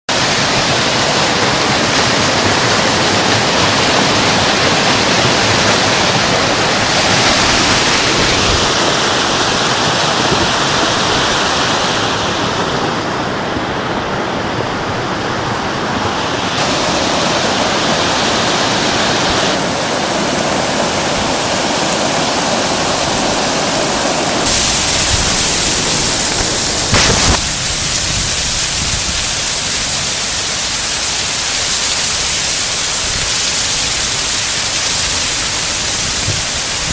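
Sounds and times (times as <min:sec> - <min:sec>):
floodwater rushing: 0:00.1 - 0:36.9
heavy rain: 0:00.1 - 0:36.9.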